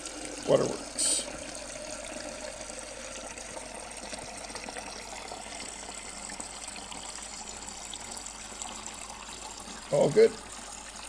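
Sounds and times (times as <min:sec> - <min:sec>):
water running from dispenser: 0:00.0 - 0:11.0.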